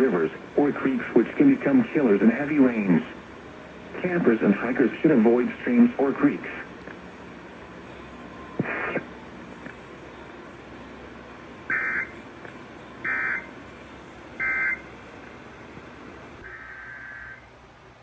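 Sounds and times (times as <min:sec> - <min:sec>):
radio hiss: 0:00.0 - 0:17.5.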